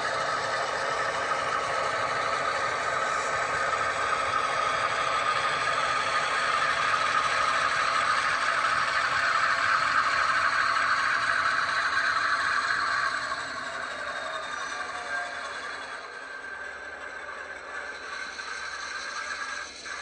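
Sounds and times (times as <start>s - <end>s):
model diesel engine: 0.0s - 20.0s
wheels rattling on track: 0.0s - 20.0s.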